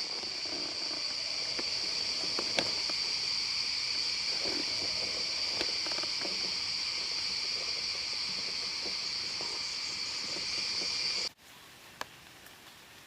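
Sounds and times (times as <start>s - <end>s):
faint clicks and rustles: 0.0s - 11.3s
insects buzzing: 0.0s - 11.4s.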